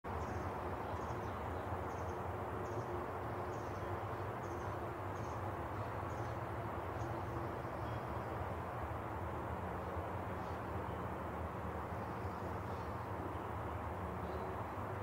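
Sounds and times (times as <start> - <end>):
low distant rush: 0.1 - 15.0.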